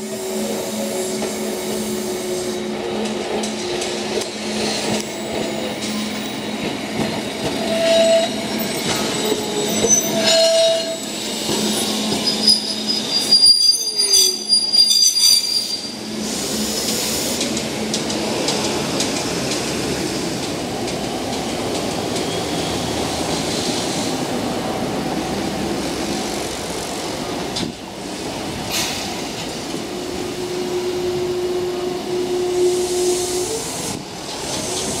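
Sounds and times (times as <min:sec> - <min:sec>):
tram wheels squealing on rails: 0:00.0 - 0:35.0.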